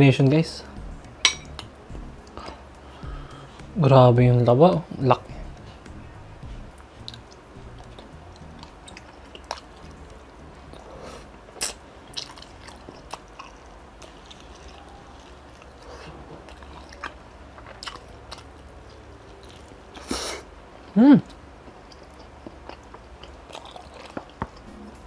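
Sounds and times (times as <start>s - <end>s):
man chewing food: 0.7s - 3.8s, 5.1s - 20.1s, 20.8s - 25.0s.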